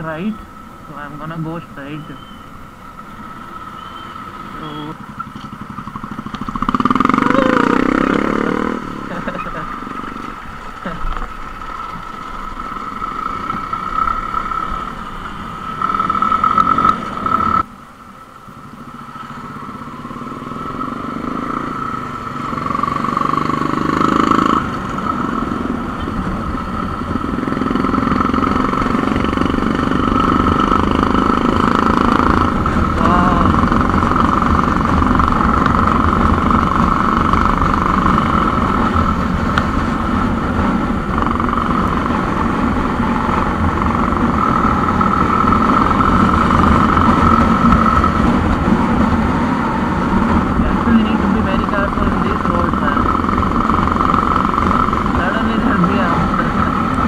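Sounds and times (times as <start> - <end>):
motorcycle engine running: 0.0 - 17.8, 18.5 - 57.0
wind and road noise: 0.0 - 57.0.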